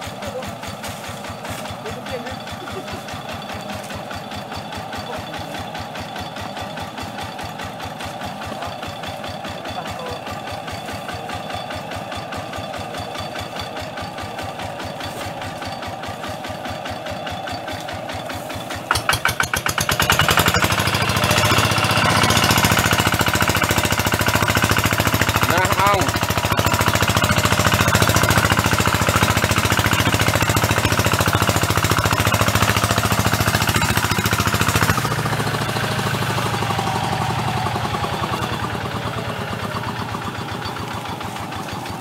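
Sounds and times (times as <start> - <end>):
tractor engine idling and revving: 0.0 - 42.0.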